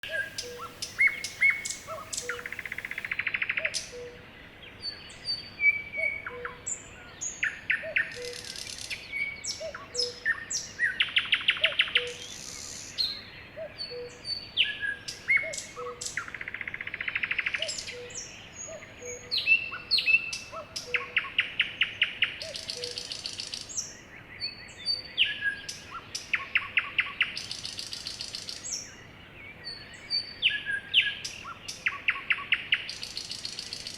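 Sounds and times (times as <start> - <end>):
songbirds singing: 0.0 - 33.9.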